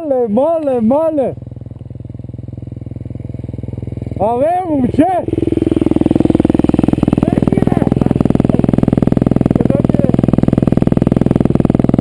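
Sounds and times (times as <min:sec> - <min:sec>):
motocross bike engine idling: 0:00.0 - 0:12.0.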